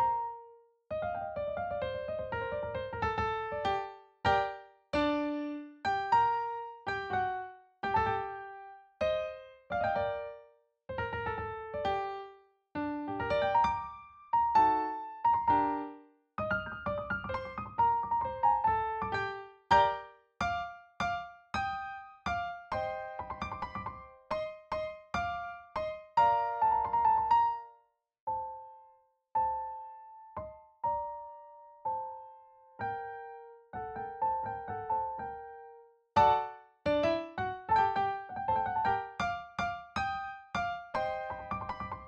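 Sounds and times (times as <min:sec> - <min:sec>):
slow piano melody: 0:00.0 - 0:42.0.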